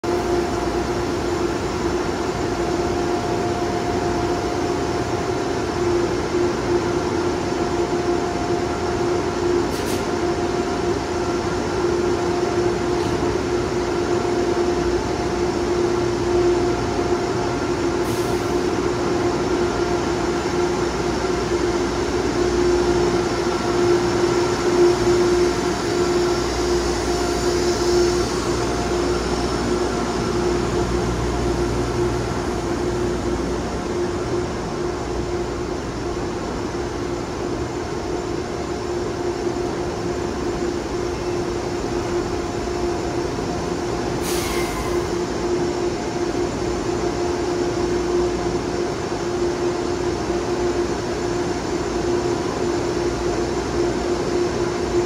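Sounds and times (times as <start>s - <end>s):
locomotive humming: 0.0s - 55.0s
train pulling out rumble: 0.0s - 55.0s.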